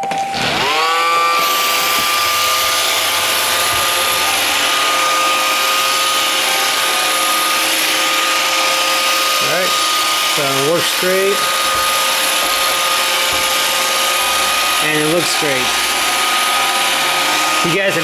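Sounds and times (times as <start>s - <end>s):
robot vacuum whining: 0.0s - 18.0s.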